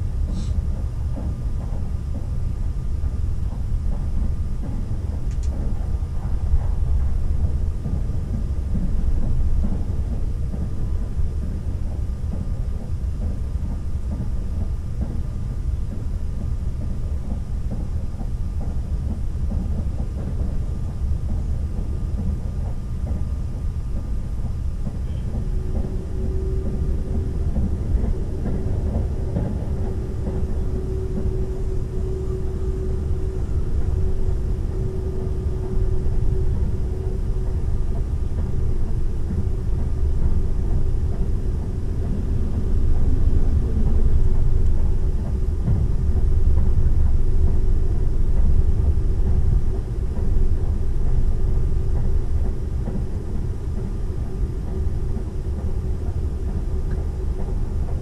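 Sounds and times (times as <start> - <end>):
steady hum: 0.0 - 58.0
train wheels rumbling on rail: 0.0 - 58.0.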